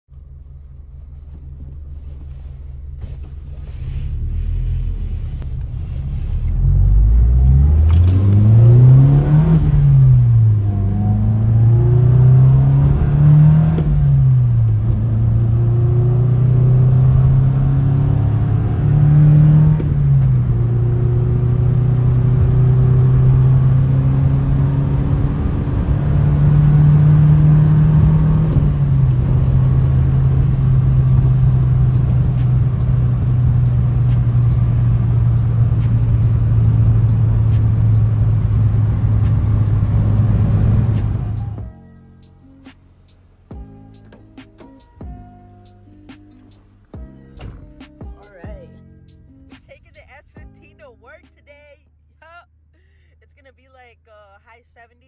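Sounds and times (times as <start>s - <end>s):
car engine accelerating through gears: 0.2s - 49.8s.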